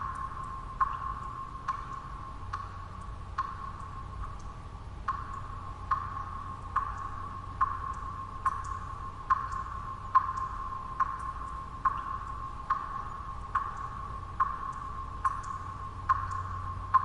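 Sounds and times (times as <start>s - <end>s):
low white-noise rumble: 0.0s - 17.0s
water drops plinking: 0.0s - 17.0s.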